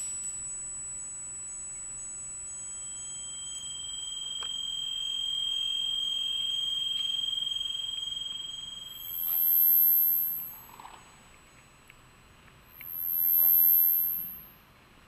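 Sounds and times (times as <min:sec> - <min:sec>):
piercing high tone: 0:00.0 - 0:10.8, 0:12.7 - 0:14.6
high sine tone: 0:00.0 - 0:14.7.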